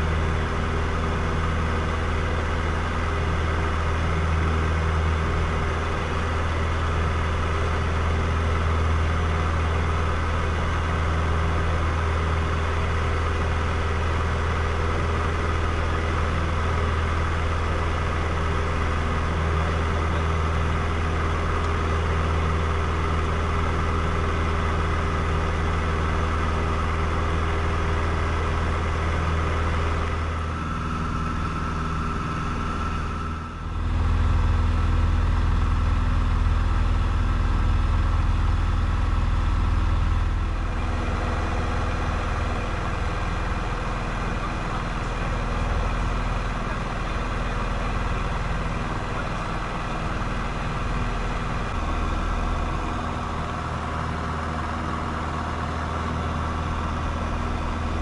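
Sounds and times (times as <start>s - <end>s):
airplane engine droning: 0.0s - 58.0s.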